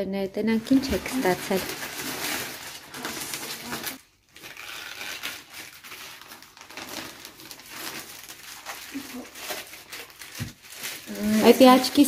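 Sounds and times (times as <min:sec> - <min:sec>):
gift wrap paper crinkling: 0:00.6 - 0:12.0.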